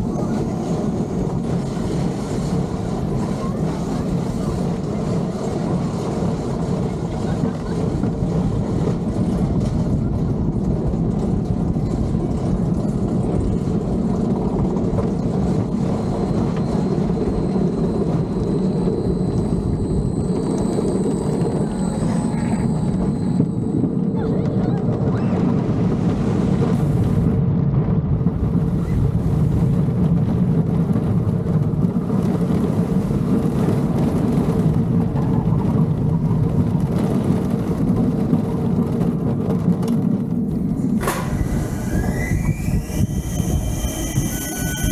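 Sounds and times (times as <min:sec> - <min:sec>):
roller coaster chain lift clatter: 0:00.0 - 0:25.7, 0:31.6 - 0:44.9
coaster track noise: 0:00.0 - 0:44.9
rushing wind: 0:00.0 - 0:44.9.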